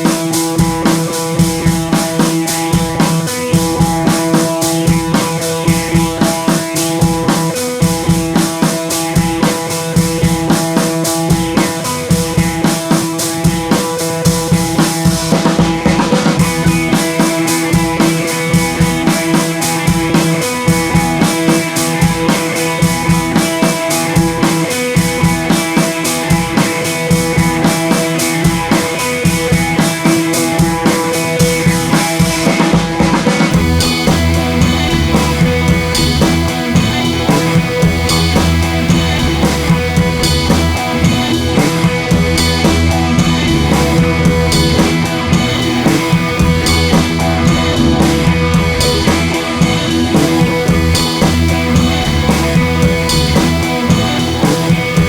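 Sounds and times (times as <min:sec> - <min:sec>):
drum kit beat: 0:00.0 - 0:55.0
guitar: 0:00.0 - 0:55.0.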